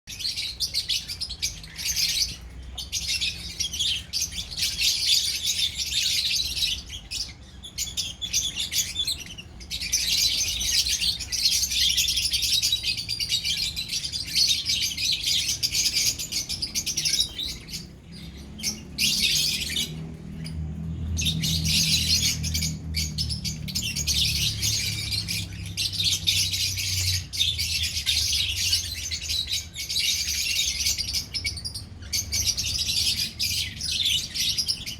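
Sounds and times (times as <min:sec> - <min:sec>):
lovebirds chirping: 0:00.1 - 0:34.9.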